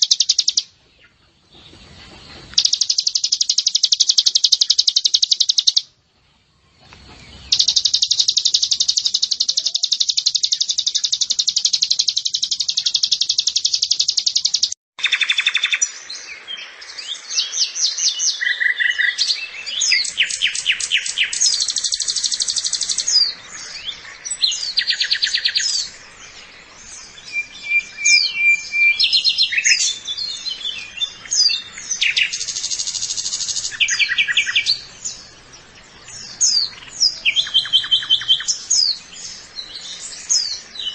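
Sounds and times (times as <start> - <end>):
bird trilling and chirping: 0.0 - 0.7, 2.5 - 5.9, 7.3 - 15.9, 18.2 - 40.9.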